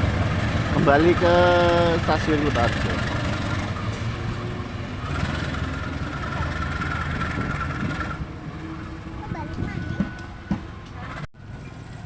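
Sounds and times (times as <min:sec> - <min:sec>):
locomotive engine rumble: 0:00.0 - 0:12.0.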